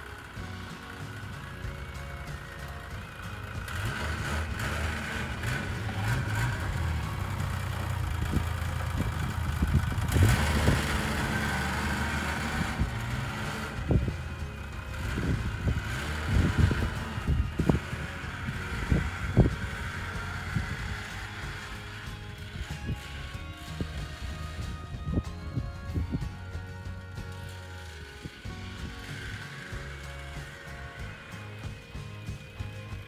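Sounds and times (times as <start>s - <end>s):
off-road vehicle engine: 0.0s - 33.0s.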